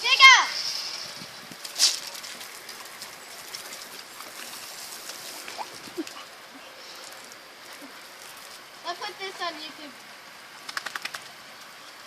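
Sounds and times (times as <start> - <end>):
running water splashing: 0.0 - 10.1.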